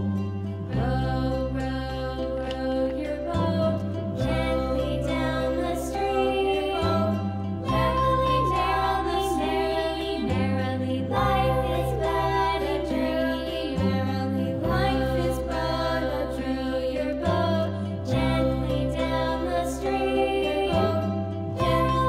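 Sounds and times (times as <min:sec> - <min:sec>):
bass line: 0:00.0 - 0:22.0
children's music with singing: 0:00.0 - 0:22.0.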